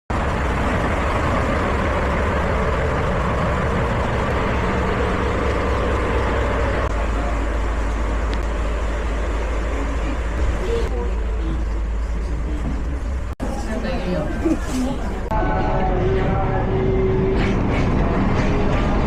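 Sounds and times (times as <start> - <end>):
train rumbling: 0.1 - 19.0.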